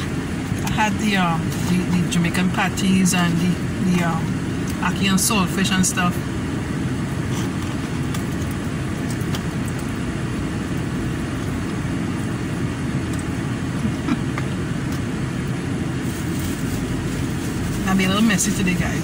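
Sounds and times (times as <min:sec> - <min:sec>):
car air conditioning hum: 0:00.0 - 0:19.0.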